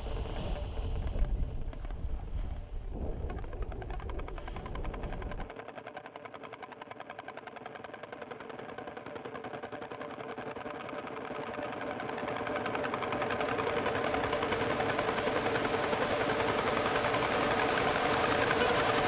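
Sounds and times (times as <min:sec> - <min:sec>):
buzzing drone music with pulse: 0:00.0 - 0:19.0.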